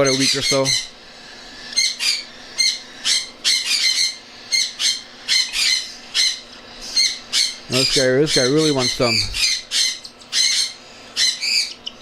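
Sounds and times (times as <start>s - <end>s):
cockatiel chicks begging calls: 0.0s - 12.0s.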